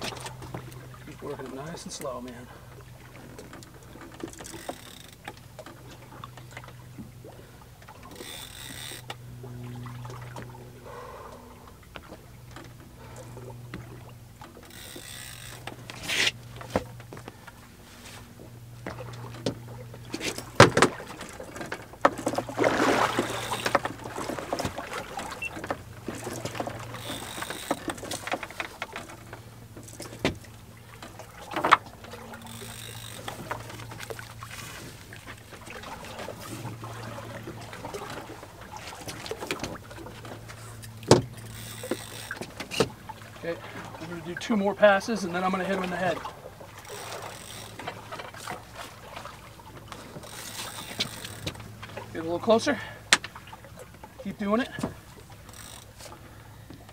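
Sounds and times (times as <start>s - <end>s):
boat engine idling: 0.0s - 56.9s.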